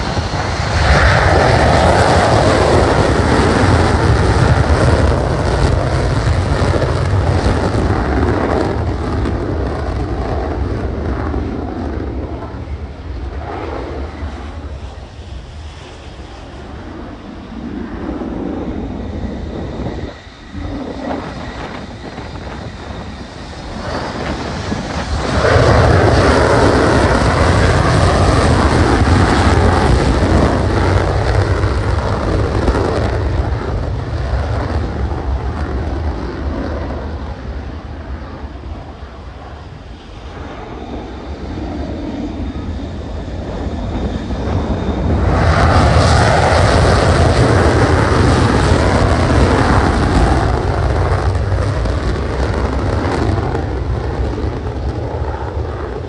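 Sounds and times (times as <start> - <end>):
jet engines in afterburner: 0.0 - 56.0.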